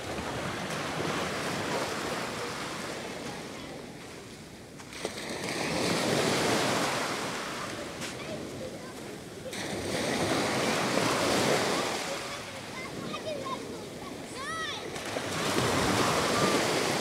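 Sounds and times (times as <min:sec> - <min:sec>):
waves breaking on sand: 0:00.0 - 0:17.0.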